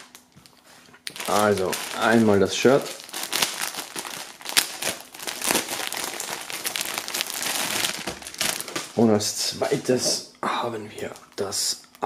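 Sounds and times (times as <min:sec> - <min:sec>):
plastic bag crinkling: 0:01.0 - 0:10.2, 0:10.9 - 0:12.0.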